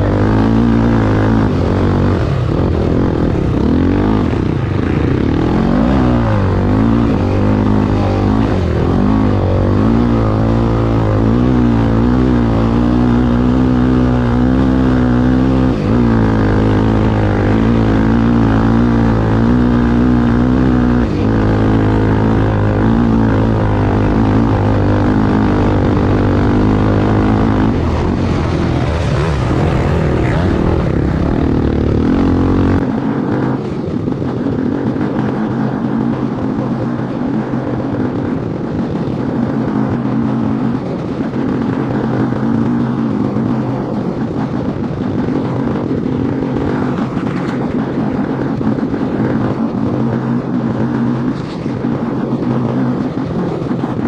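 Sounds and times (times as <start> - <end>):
racing engine running hard: 0.0 - 54.0.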